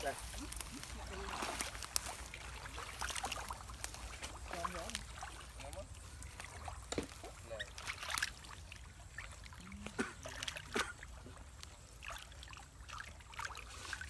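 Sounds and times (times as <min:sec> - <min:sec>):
water splashing and trickling: 0:00.0 - 0:14.0.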